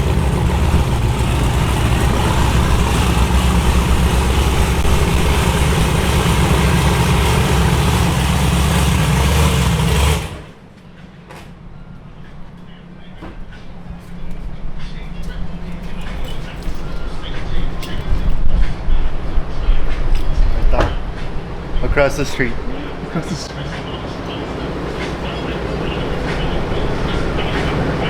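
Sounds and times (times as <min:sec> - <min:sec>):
vehicle engine running: 0:00.0 - 0:10.8, 0:11.8 - 0:28.0.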